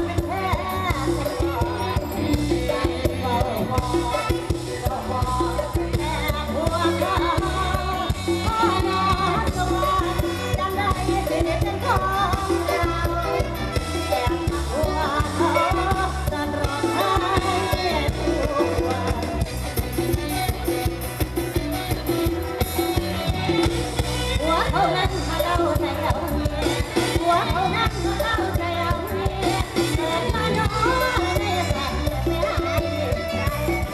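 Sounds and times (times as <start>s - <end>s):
woman singing into microphone: 0.0s - 19.6s, 24.2s - 33.9s
amplified band with bass and drums: 0.0s - 33.9s.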